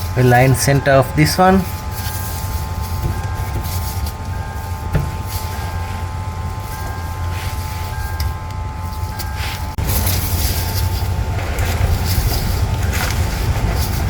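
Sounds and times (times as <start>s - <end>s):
low mechanical drone: 0.0s - 14.0s.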